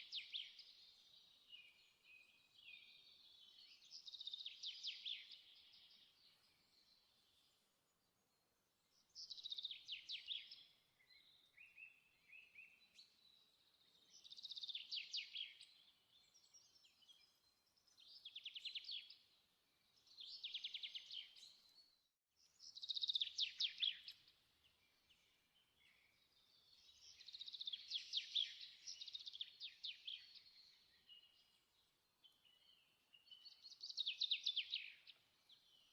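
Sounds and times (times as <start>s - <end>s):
soft bird chirps: 0.0s - 35.9s.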